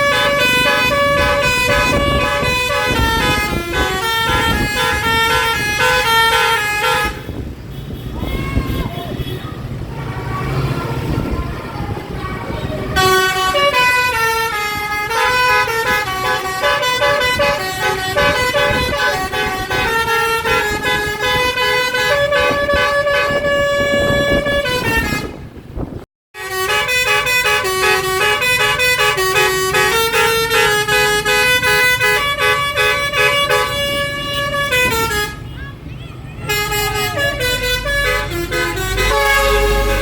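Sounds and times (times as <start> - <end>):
musical bus horn melody: 0.0 - 8.9, 13.0 - 25.6, 26.3 - 35.6, 36.4 - 40.0.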